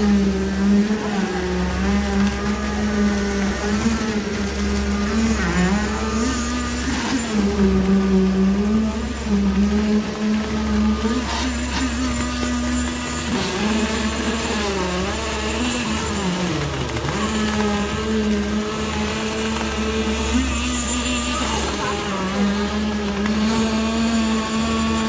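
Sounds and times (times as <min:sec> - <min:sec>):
truck engine running under load: 0:00.0 - 0:25.0.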